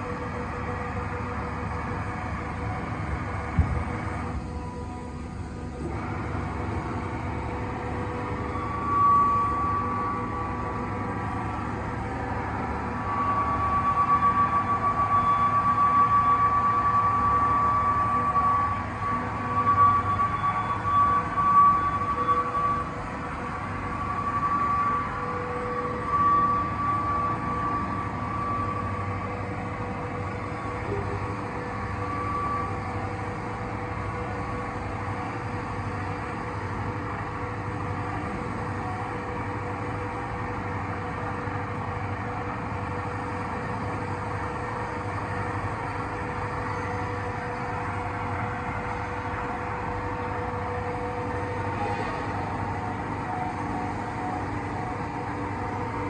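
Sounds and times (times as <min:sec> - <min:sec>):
high machine whine: 0:00.0 - 0:56.0
ice machine mechanical hum: 0:00.0 - 0:56.0.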